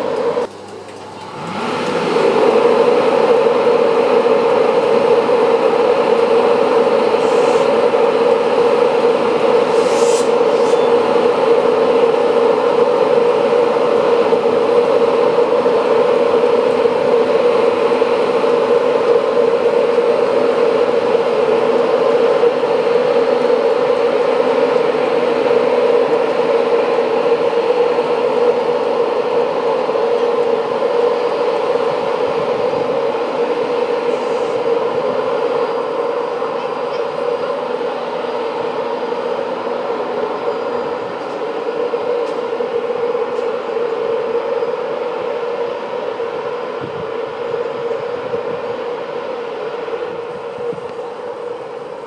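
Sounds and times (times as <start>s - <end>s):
electric locomotive humming: 0.0s - 52.0s.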